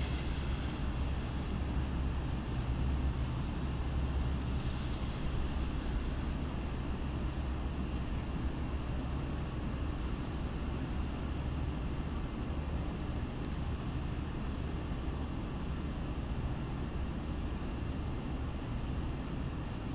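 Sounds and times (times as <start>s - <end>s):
distant traffic rumble: 0.0s - 19.9s.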